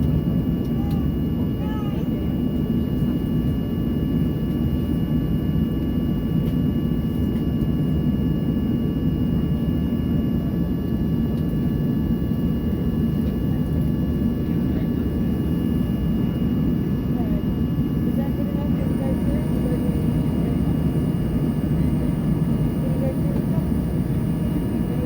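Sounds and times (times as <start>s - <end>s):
faint whining tones: 0.0s - 25.0s
jet engines idling: 0.0s - 25.0s.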